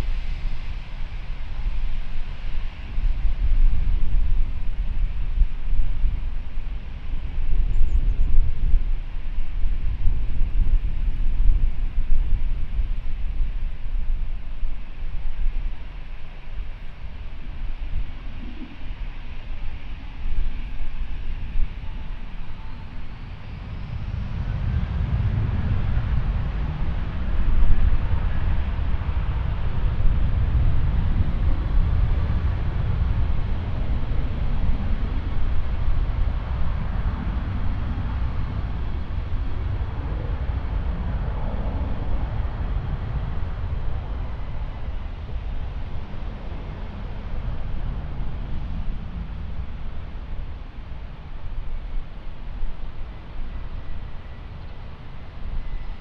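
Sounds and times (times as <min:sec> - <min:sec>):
jet airliner engines rumbling: 0:00.0 - 0:56.0.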